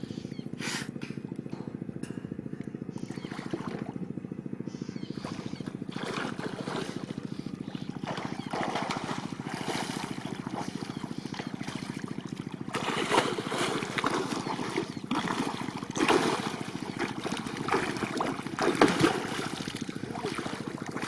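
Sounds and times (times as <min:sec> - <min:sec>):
fast engine throb: 0:00.0 - 0:21.0
water splashing from swimming: 0:02.6 - 0:04.1, 0:05.2 - 0:21.0.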